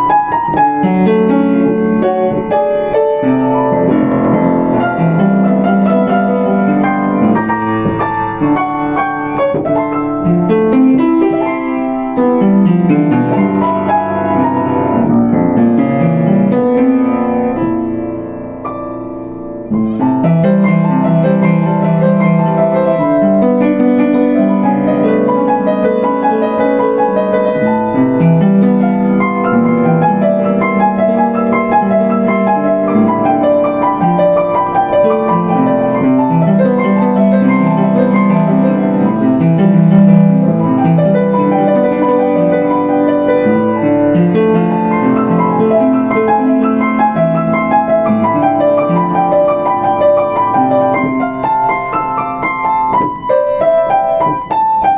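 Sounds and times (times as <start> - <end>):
upright piano playing: 0.0 - 54.9.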